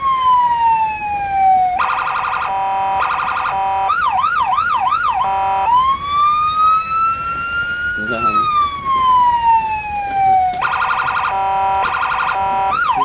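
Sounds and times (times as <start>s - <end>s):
toy fire engine siren: 0.0s - 13.0s.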